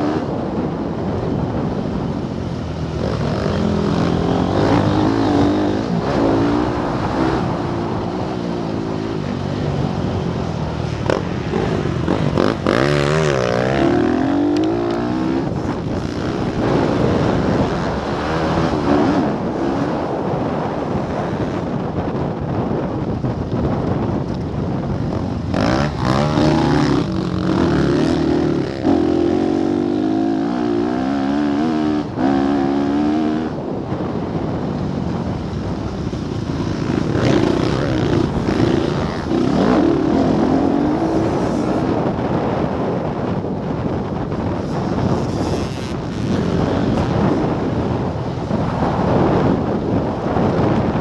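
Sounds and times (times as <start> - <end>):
motorbike engine revving: 0.0 - 21.9, 24.5 - 51.0
wind noise: 0.0 - 51.0.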